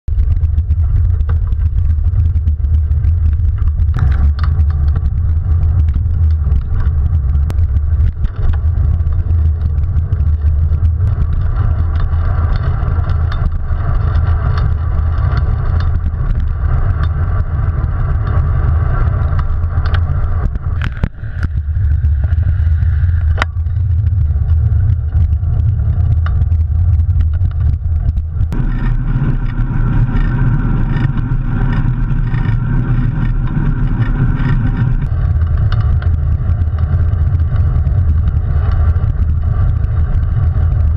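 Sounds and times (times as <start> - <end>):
road rumble of bicycle: 0.0 - 40.9
wind buffeting microphone: 0.0 - 40.9.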